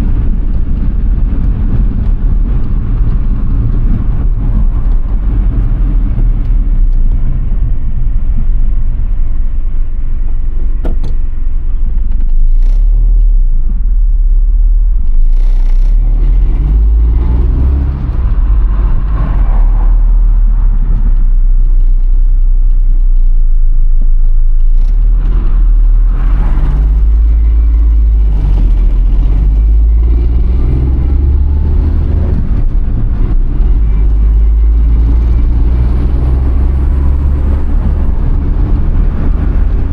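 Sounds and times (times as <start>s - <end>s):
small turbo car engine: 0.0s - 23.5s, 24.2s - 39.9s
road noise rumble: 0.0s - 39.9s.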